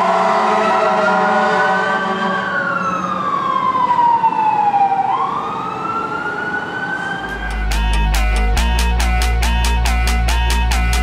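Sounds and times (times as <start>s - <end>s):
fire engine siren wailing: 0.0s - 9.0s.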